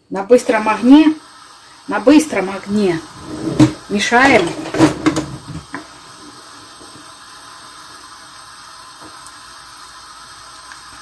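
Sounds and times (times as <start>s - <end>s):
soft watery hiss: 0.0s - 11.0s.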